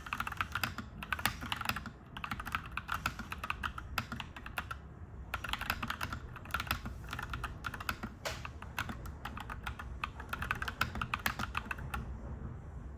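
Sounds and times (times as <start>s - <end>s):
mechanical keyboard typing: 0.0s - 12.1s.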